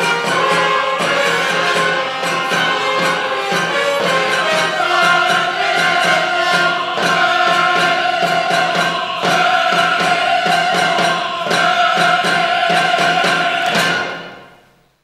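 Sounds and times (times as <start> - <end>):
orchestra music: 0.0 - 14.6
choir holding long chords: 0.0 - 14.7.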